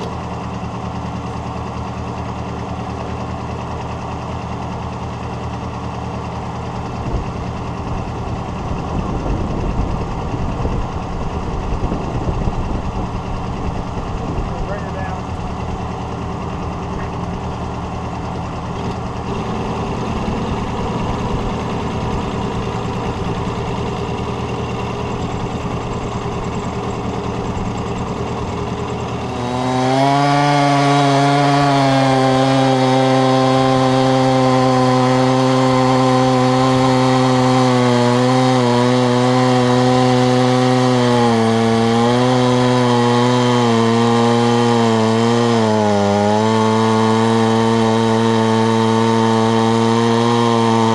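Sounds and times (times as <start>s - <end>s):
chainsaw sawing through wood: 0.0s - 50.9s.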